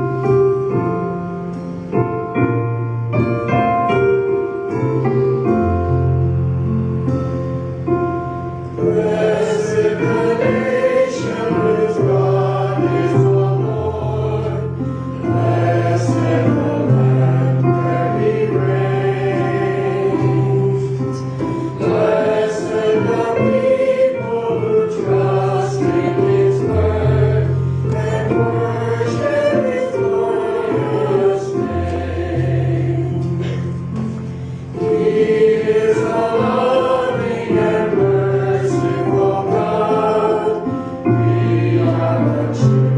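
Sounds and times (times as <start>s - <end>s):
congregation singing a hymn: 0.0s - 42.9s.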